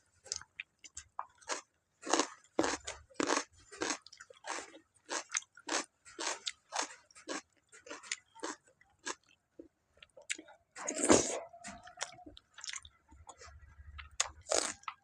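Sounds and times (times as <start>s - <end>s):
person chewing chicken: 0.3s - 9.4s, 10.0s - 15.0s.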